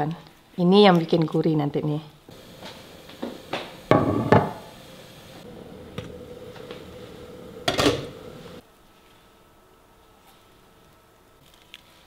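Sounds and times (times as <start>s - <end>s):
faint steady hum: 2.2s - 12.0s.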